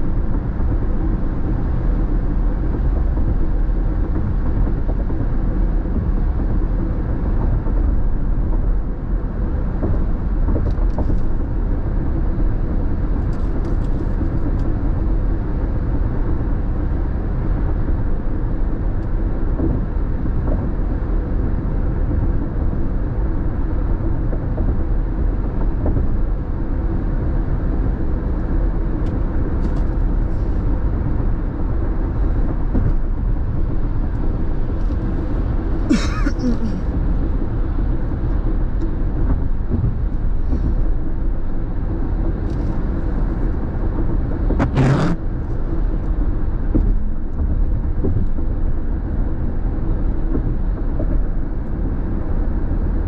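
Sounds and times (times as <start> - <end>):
tyre and engine rumble: 0.0 - 53.0.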